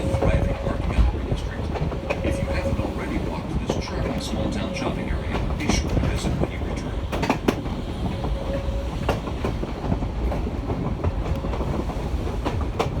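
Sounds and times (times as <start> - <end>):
train car rumbling on track: 0.0 - 13.0
wheels clicking over rail joints: 0.0 - 13.0.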